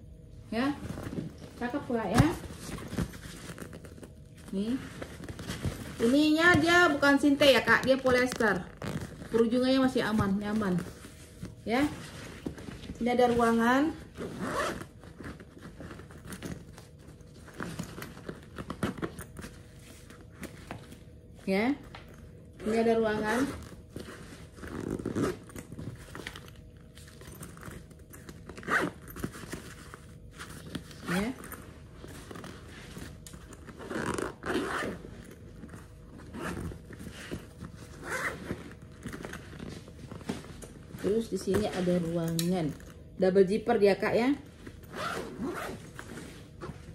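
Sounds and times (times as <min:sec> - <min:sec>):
zipper swishing open and shut: 0:00.5 - 0:20.4, 0:22.6 - 0:26.5, 0:27.1 - 0:42.9, 0:44.6 - 0:46.9
backpack fabric rustling: 0:00.5 - 0:21.4, 0:22.1 - 0:43.0, 0:44.4 - 0:46.9.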